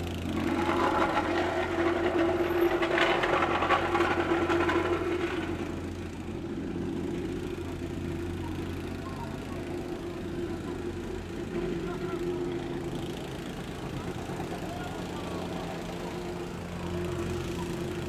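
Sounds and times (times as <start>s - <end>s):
low engine hum: 0.0s - 18.0s
plate compactor rattling: 0.0s - 18.0s.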